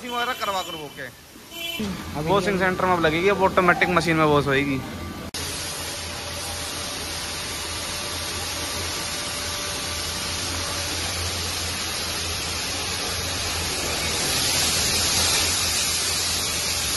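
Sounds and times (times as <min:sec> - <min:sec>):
water spraying in car wash: 0:00.0 - 0:16.9.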